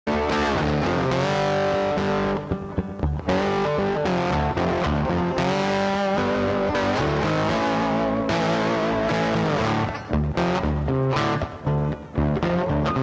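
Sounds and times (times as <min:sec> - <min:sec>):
bass: 0:00.1 - 0:13.0
distorted electric guitar music: 0:00.1 - 0:13.0.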